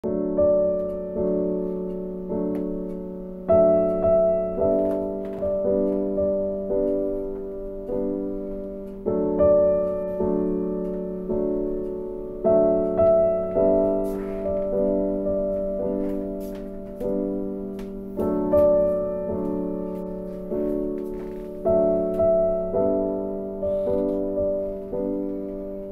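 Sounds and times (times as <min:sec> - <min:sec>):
slow piano piece: 0:00.0 - 0:25.9.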